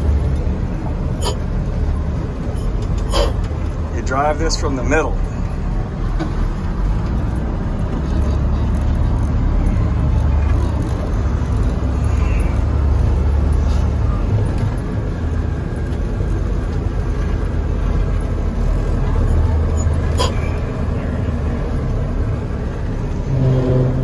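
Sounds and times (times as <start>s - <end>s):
diesel engine rumble in cab: 0.0s - 24.0s.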